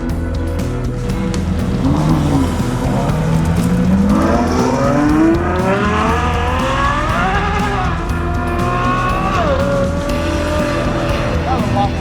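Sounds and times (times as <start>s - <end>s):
background music: 0.0s - 12.0s
car engine revving: 0.0s - 12.0s.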